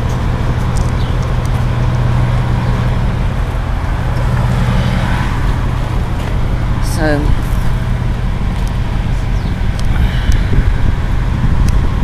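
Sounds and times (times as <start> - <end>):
diesel trucks running: 0.0 - 12.0
traffic noise: 0.0 - 12.0.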